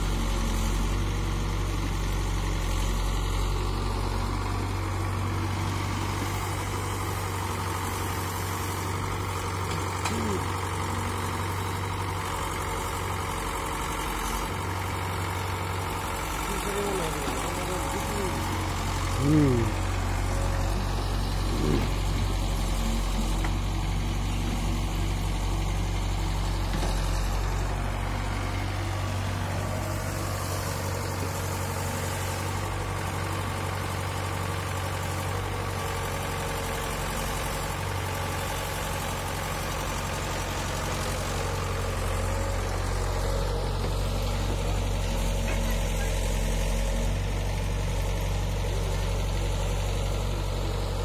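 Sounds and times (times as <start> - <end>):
excavator diesel engine: 0.0 - 51.0
tractor idling: 0.0 - 51.0.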